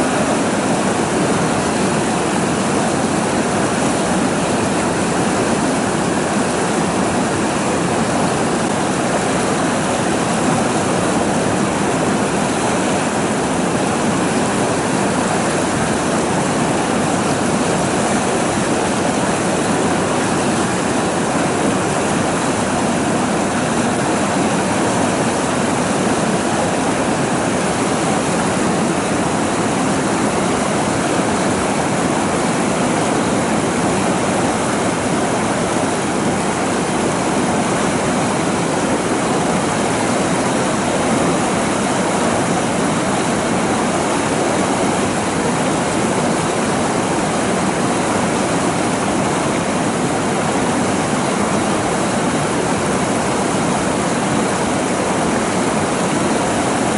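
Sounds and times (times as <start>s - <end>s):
river rushing over rocks: 0.0s - 56.9s.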